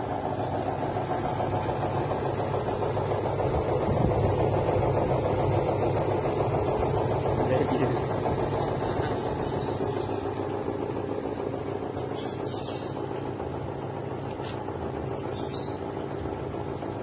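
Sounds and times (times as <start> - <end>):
feather plucking machine drone: 0.0 - 17.0
birds chirping: 0.2 - 17.0.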